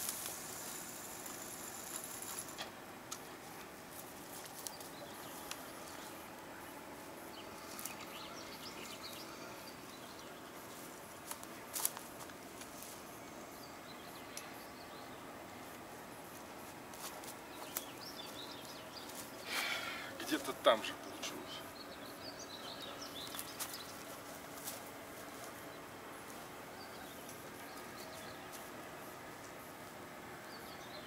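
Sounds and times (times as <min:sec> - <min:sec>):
low background hiss: 0:00.0 - 0:31.0.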